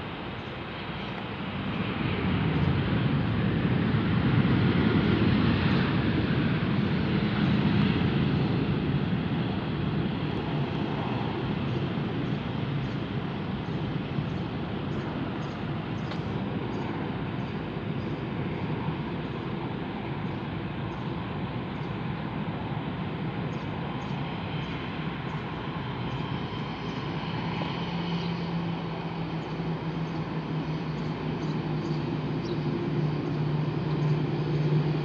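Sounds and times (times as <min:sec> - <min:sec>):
jet airliner engines rumbling: 0:00.0 - 0:35.0.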